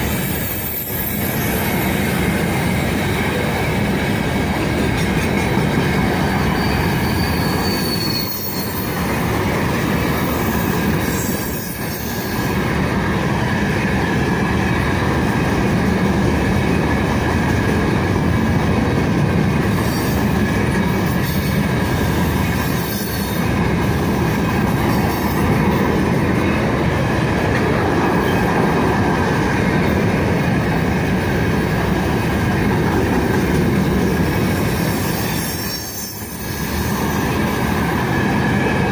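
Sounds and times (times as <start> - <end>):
train wheels squealing on rail: 0.0 - 13.0, 19.6 - 26.8, 27.5 - 38.9.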